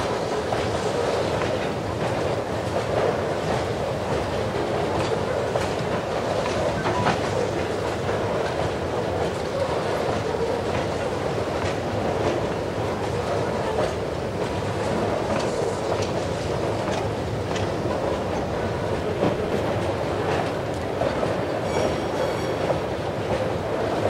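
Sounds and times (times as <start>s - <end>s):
wheels clicking over rail joints: 0.3s - 23.6s.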